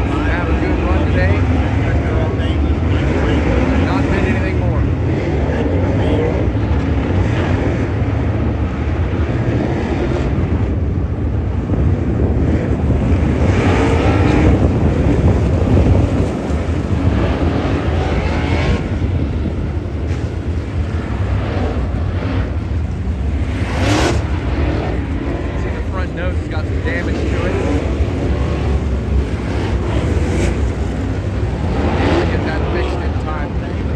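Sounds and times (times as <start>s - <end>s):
race car engines rumbling: 0.0s - 33.9s
wind buffeting microphone: 6.4s - 33.9s.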